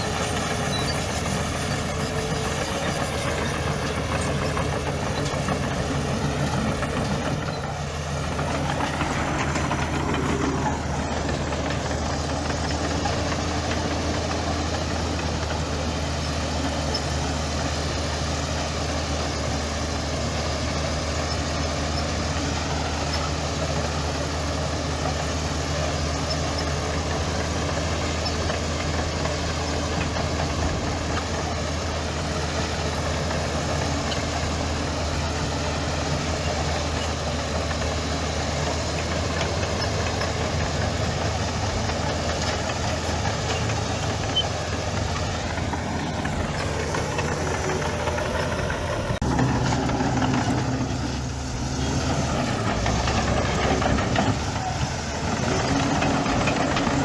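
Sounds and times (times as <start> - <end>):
heavy machinery diesel engine running: 0.0 - 57.0.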